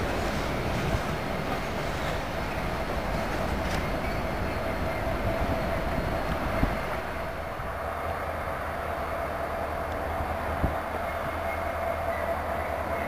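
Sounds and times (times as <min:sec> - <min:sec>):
freight train cars rolling: 0:00.0 - 0:13.0.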